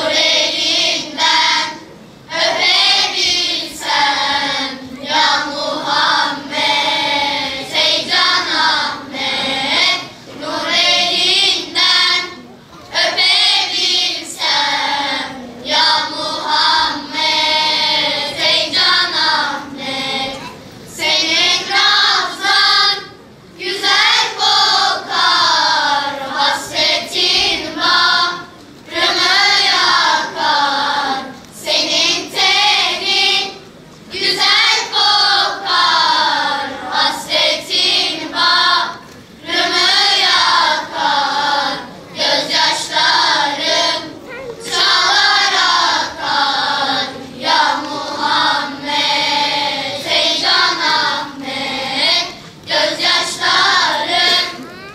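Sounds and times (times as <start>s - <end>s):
children's choir singing: 0.0s - 54.9s.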